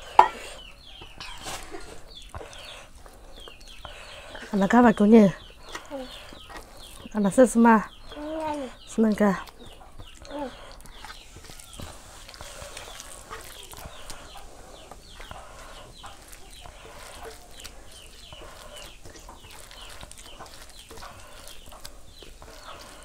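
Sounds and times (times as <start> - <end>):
chickens clucking: 0.0 - 23.0
hands mixing rice on wood: 0.0 - 23.0.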